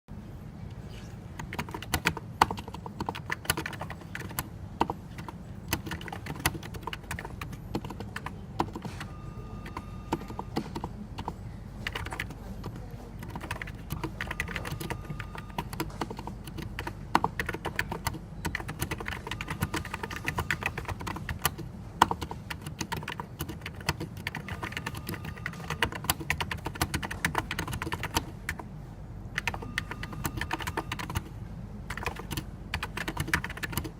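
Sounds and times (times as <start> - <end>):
steady low hum: 0.1 - 33.9
keyboard typing: 1.0 - 28.7, 29.3 - 33.9.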